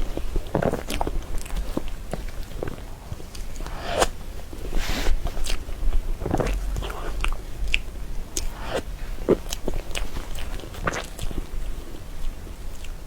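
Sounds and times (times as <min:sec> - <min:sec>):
moist chewing of cake: 0:00.0 - 0:13.0.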